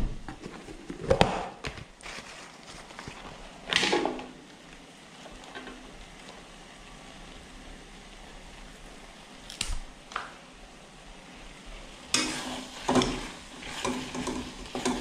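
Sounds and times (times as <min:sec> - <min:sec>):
stir-fry sizzling in a wok: 0:02.5 - 0:15.0.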